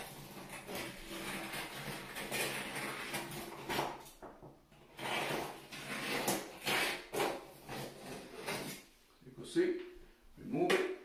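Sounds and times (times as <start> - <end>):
knife scraping caulk: 0.0 - 8.9.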